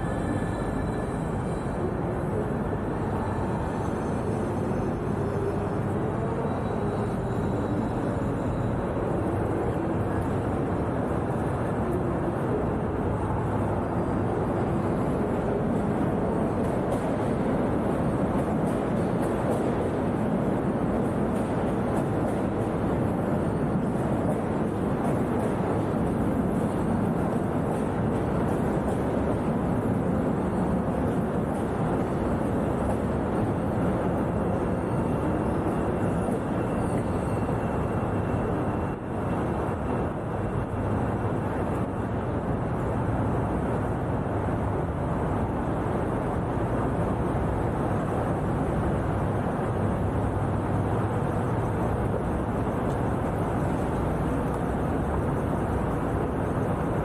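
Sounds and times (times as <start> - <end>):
low city and station rumble: 0.0 - 57.0.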